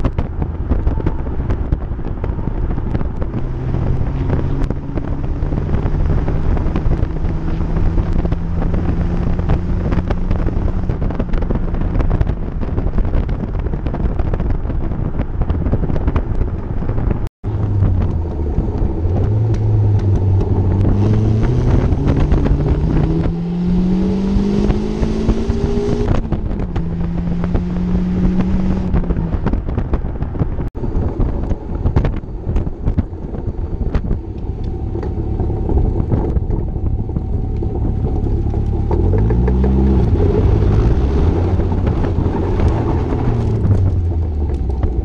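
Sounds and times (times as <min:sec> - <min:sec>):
car engine accelerating hard: 0:00.0 - 0:14.4, 0:16.7 - 0:45.0
wind noise: 0:00.0 - 0:45.0.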